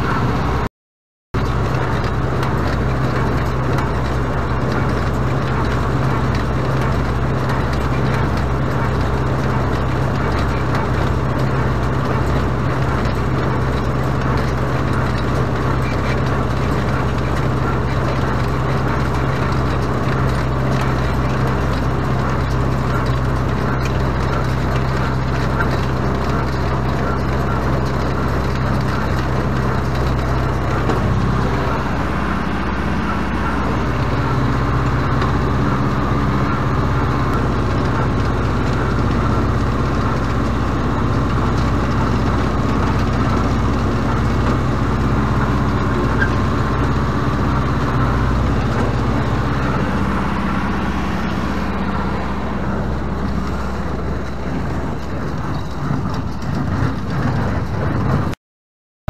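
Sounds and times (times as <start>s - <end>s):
tractor engine running: 0.0s - 0.7s, 1.4s - 58.4s.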